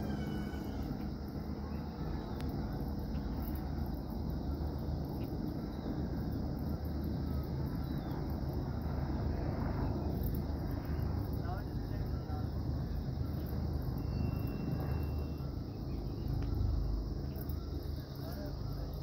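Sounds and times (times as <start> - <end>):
helicopter rotor and engine drone: 0.0 - 19.0.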